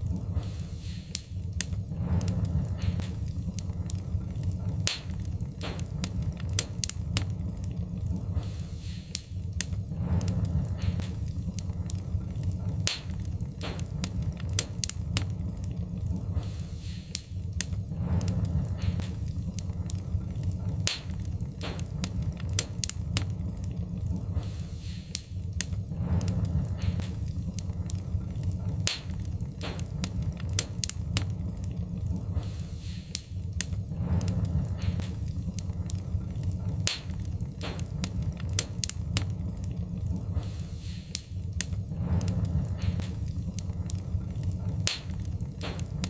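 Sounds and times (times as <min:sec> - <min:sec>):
fire hissing: 0:00.0 - 0:46.0
wood fire crackling: 0:00.0 - 0:46.0.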